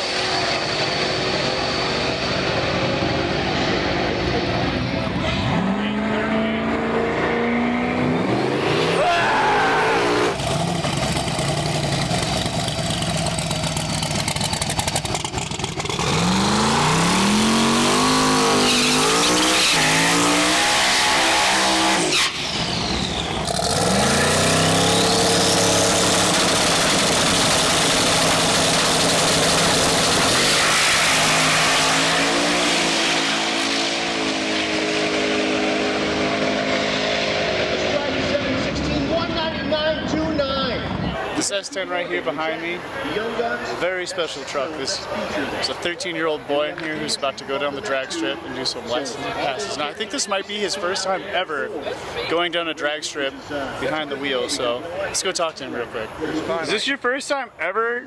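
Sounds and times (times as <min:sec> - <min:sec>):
race car engines accelerating: 0:00.0 - 0:50.1.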